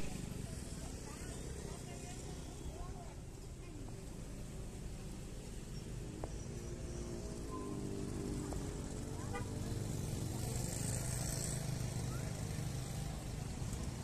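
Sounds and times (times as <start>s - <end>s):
small motorcycle engines passing: 0.0s - 14.0s.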